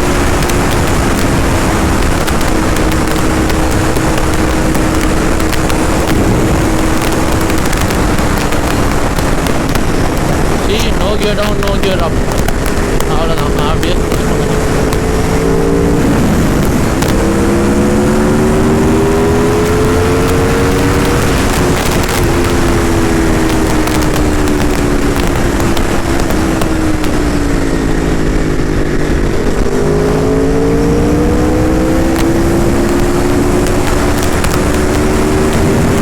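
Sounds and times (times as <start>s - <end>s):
motorcycle engine accelerating: 0.0s - 36.0s
wind rush: 0.0s - 36.0s.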